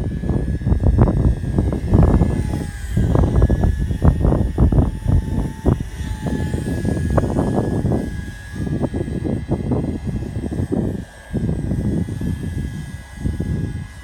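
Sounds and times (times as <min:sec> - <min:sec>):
model helicopter rotor whine: 0:00.0 - 0:14.0
wind buffeting microphone: 0:00.0 - 0:14.0.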